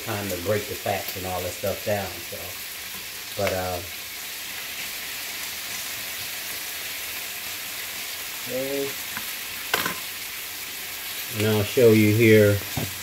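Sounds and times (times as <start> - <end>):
bacon sizzling in a skillet: 0.0 - 13.0.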